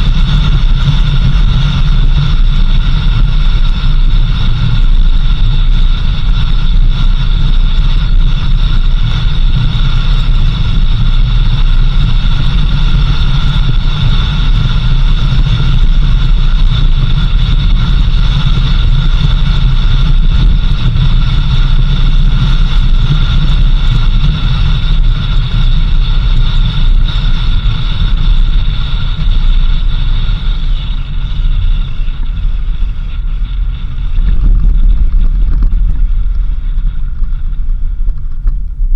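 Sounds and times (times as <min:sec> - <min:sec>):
high whine: 0:00.0 - 0:38.9
vehicle engine and road rumble: 0:00.0 - 0:38.9.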